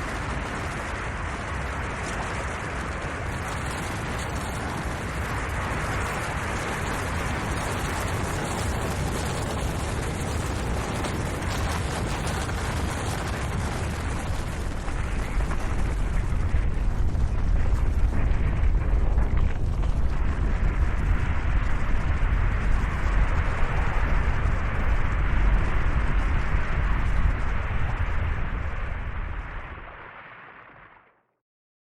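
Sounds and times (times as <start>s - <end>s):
avalanche rumbling: 0.0s - 30.2s.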